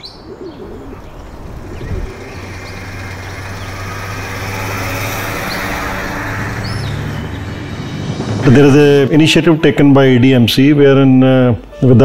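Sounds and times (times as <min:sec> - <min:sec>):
truck engine driving: 0:00.0 - 0:12.0.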